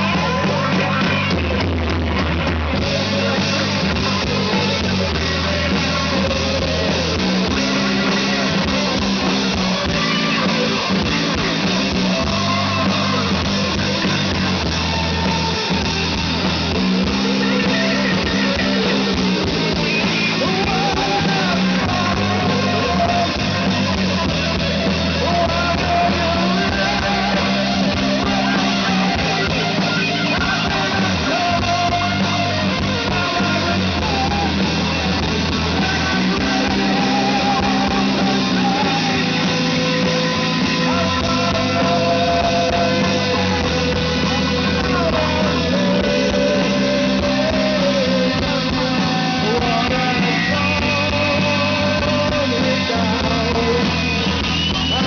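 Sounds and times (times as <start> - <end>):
person singing: 0.0 - 55.0
rock band playing: 0.0 - 55.0.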